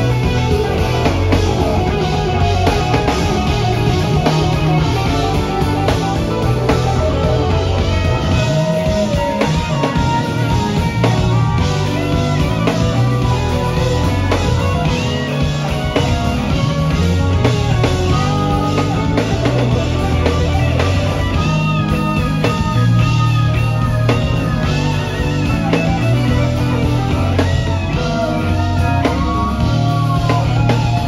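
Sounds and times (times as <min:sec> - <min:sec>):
drum kit with cymbals: 0:00.0 - 0:31.0
electric bass: 0:00.0 - 0:31.0
electric guitar melodic lines: 0:00.0 - 0:31.0.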